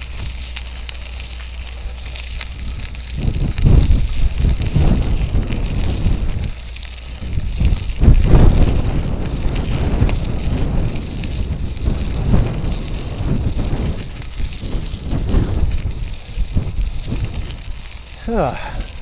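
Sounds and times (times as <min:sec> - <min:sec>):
bicycle tyres crackling on trail: 0:00.0 - 0:19.0
wind buffeting microphone: 0:00.0 - 0:19.0.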